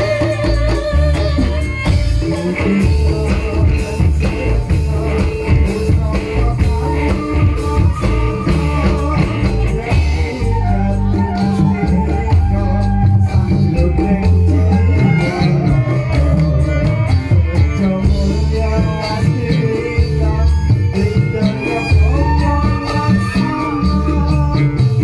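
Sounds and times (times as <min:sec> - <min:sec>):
drums: 0:00.0 - 0:25.0
man singing: 0:00.0 - 0:25.0.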